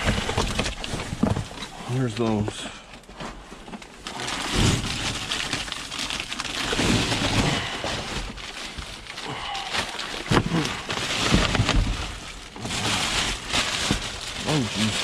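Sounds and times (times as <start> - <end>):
items knocking and clattering: 0.0 - 9.0, 9.8 - 14.4
plastic bags rustling and crinkling: 0.0 - 15.0.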